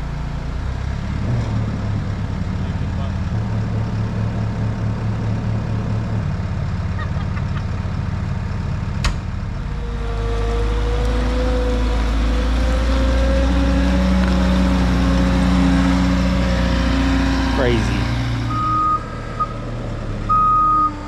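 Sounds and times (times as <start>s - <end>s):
skid steer engine running: 0.0s - 20.8s.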